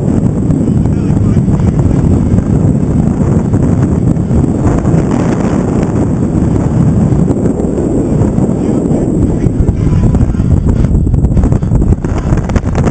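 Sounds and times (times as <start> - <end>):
boat moving across water: 0.0 - 12.9
wind buffeting microphone: 0.0 - 12.9.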